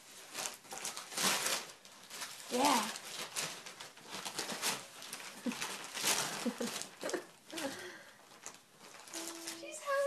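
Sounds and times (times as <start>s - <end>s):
wrapping paper rustling and tearing: 0.0s - 10.0s.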